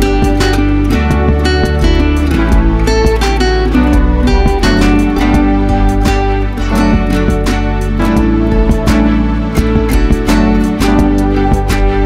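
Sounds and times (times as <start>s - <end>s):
bass line: 0.0s - 12.0s
steady beat: 0.0s - 12.0s
strummed acoustic guitar: 0.0s - 12.0s.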